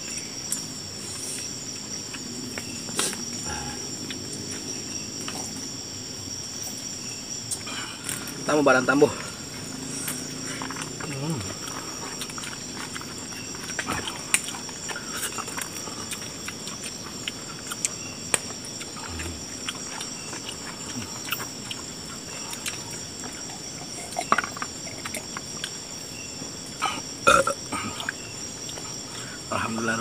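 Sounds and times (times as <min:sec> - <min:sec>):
night insects chirring: 0:00.0 - 0:30.0.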